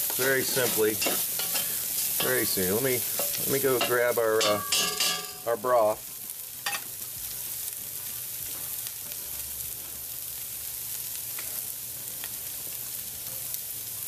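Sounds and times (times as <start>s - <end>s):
sizzling in a pot: 0.0s - 14.0s.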